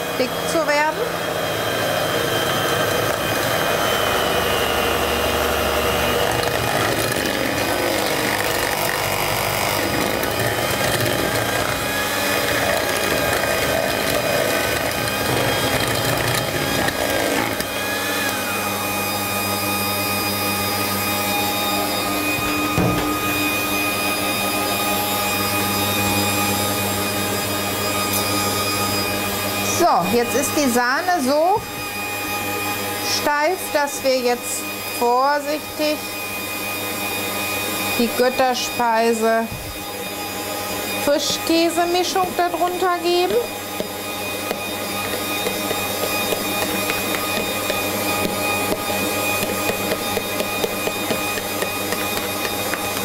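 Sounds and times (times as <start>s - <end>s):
stand mixer whipping cream: 0.0s - 53.0s.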